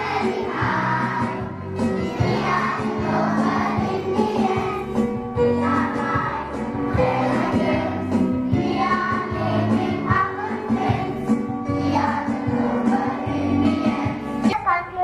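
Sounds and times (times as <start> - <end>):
children singing in unison: 0.0 - 14.4.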